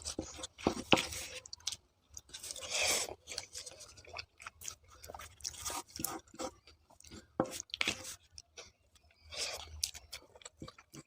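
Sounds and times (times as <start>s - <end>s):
chewing food: 0.0s - 11.0s.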